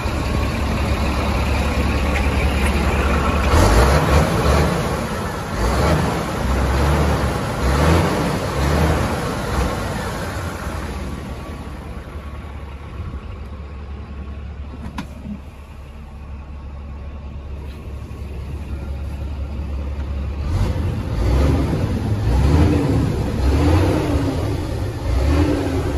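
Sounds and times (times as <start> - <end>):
diesel truck engine idling and revving: 0.0 - 25.9.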